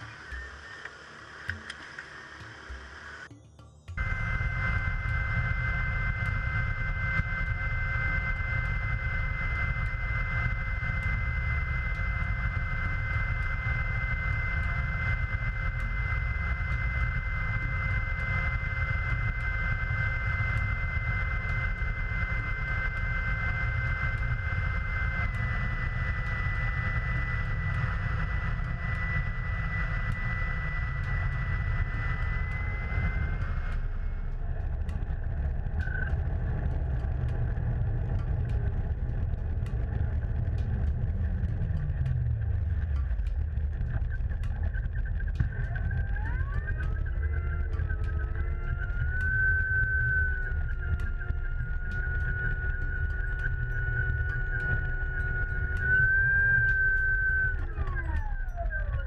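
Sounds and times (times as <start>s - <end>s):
electric motor and propeller whining: 0.0s - 59.0s
wind rumble on microphone: 4.0s - 59.0s.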